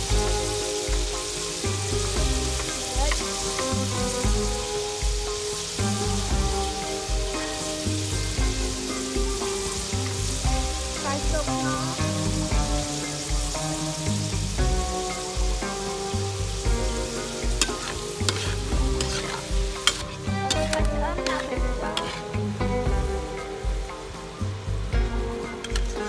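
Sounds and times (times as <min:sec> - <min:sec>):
background music with bass line: 0:00.0 - 0:26.0
food frying sizzle: 0:00.0 - 0:26.0.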